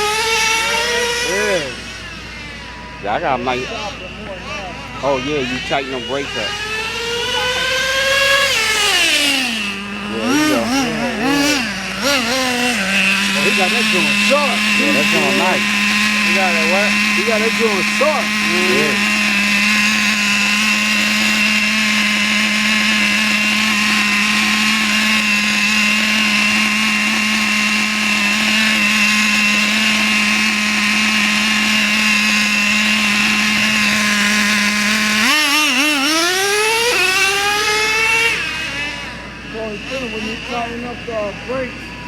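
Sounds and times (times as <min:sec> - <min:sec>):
small motor whining: 0:00.0 - 0:42.0.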